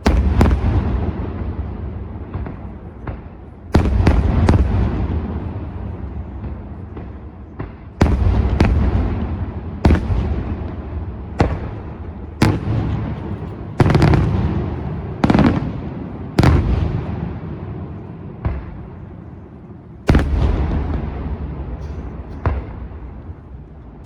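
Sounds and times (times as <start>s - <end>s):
firework bursts with echo: 0.0s - 24.0s.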